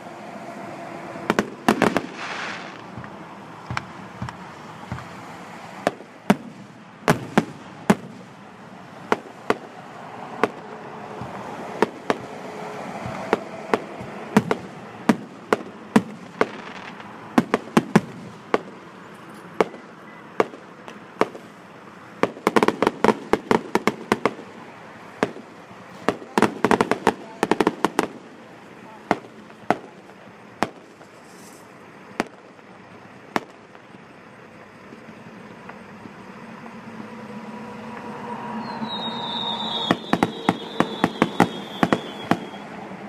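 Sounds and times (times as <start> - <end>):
fireworks bursting with sharp bangs: 0.0 - 43.0.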